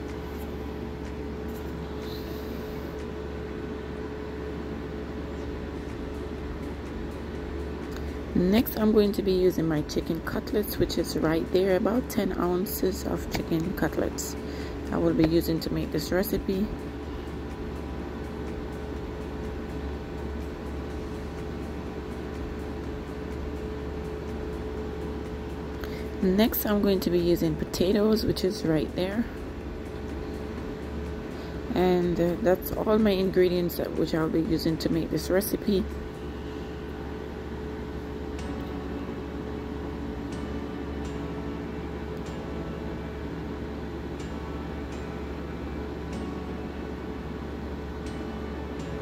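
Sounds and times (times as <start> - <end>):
constant mid-pitched tone: 0.0 - 49.0
steady background hum: 0.0 - 49.0.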